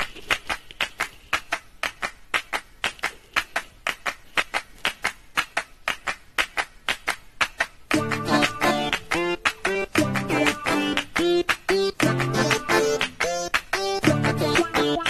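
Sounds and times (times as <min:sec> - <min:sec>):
rhythmic hand clapping: 0:00.0 - 0:15.0.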